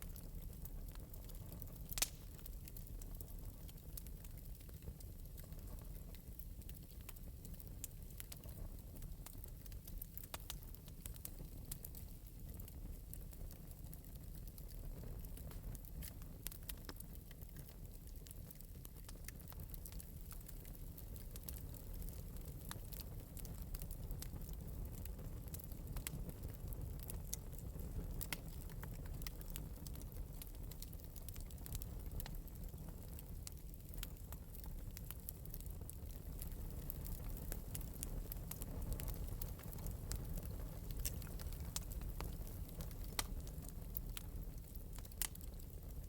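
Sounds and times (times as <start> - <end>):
fire crackling and popping: 0.0 - 46.0
low fire rumble: 0.0 - 46.0.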